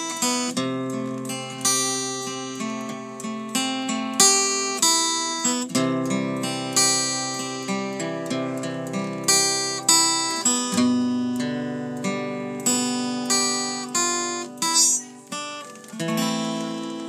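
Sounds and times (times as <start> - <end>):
acoustic guitar slow instrumental: 0.0 - 17.0.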